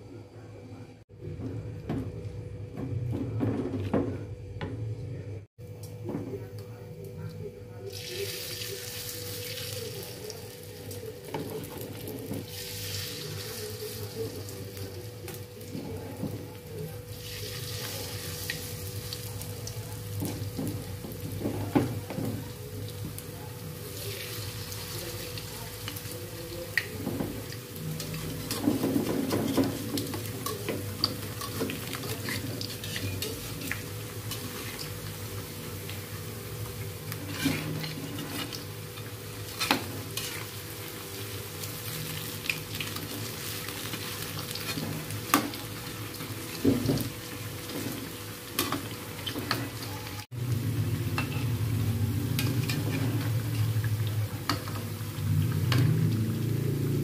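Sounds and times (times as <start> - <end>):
batter deep-frying in hot oil: 5.6 - 57.0.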